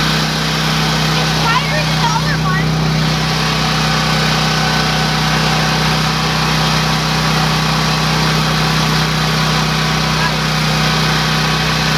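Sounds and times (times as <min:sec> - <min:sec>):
generator engine running: 0:00.0 - 0:11.9.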